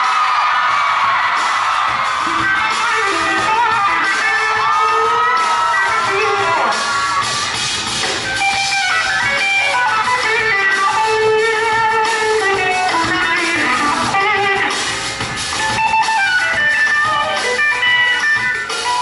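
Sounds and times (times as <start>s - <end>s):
electric guitar lead: 1.3s - 19.0s.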